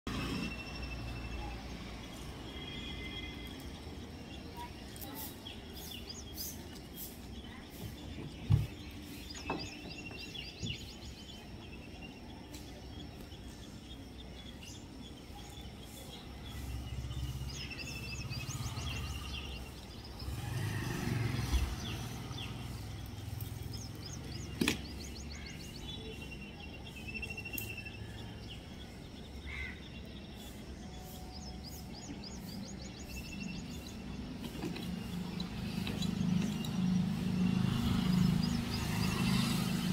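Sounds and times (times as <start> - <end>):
small birds chirping: 0.1 - 39.9.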